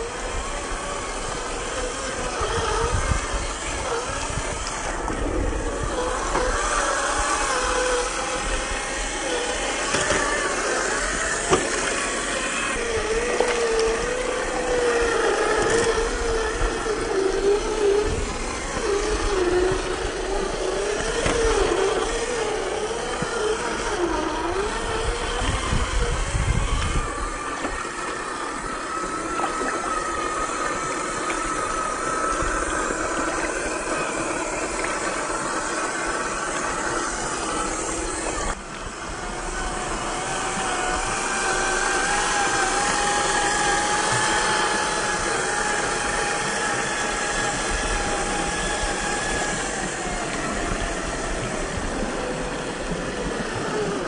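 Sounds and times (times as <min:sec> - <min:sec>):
creek water running: 0:00.0 - 0:54.0
electric motor and gearbox whining: 0:00.0 - 0:54.0.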